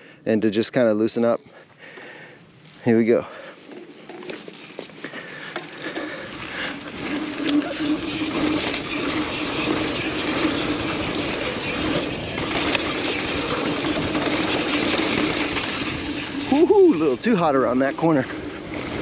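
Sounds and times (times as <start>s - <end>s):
tyre and wind noise: 3.6s - 19.0s.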